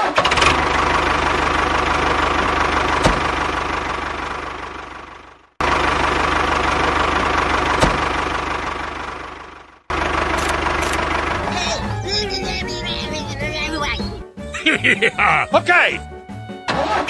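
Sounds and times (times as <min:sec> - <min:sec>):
diesel tractor engine idling: 0:00.1 - 0:16.4.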